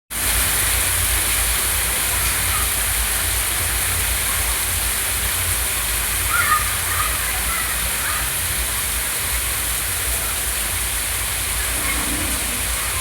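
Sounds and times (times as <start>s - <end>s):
heavy rain: 0.1s - 13.0s
running rainwater: 0.1s - 13.0s.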